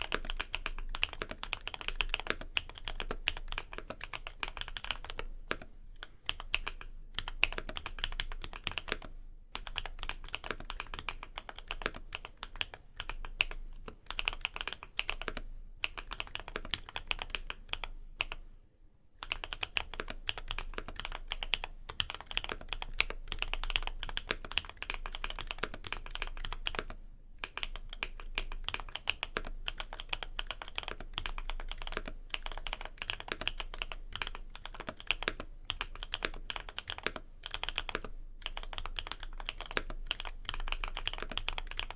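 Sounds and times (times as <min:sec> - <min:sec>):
typing on mechanical keyboard: 0:00.0 - 0:18.4, 0:19.2 - 0:41.9.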